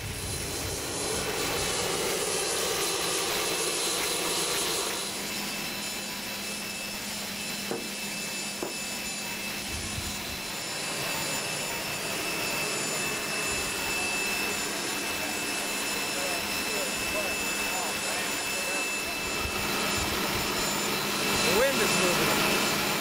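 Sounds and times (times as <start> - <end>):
jet turbine whine and rush: 0.0 - 23.0.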